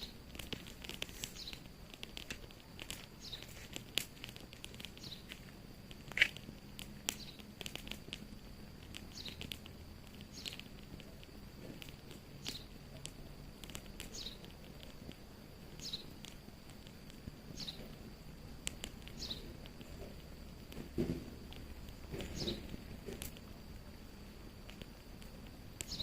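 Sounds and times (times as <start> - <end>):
bird chirping: 0.0 - 14.9, 15.6 - 16.3, 17.3 - 23.5, 25.7 - 26.0
wood fire crackling and popping: 0.0 - 26.0.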